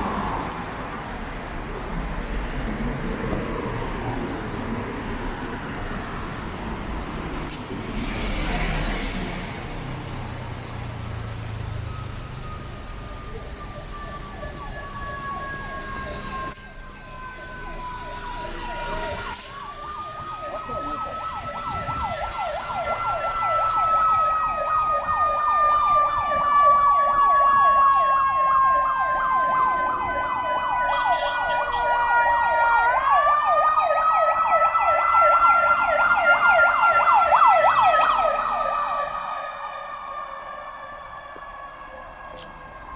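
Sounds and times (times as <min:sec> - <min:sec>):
emergency vehicle siren wailing: 0:00.0 - 0:42.9
street traffic: 0:00.0 - 0:42.9.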